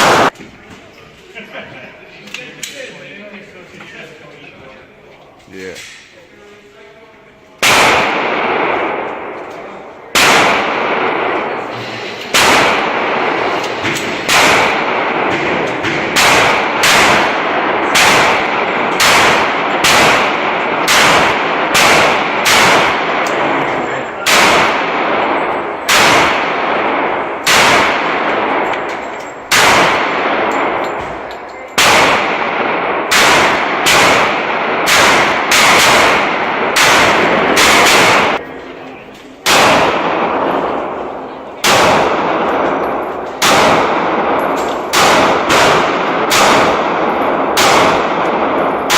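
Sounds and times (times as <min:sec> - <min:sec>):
pistol shots echoing: 0:00.0 - 0:00.4, 0:07.6 - 0:38.5, 0:39.4 - 0:48.9.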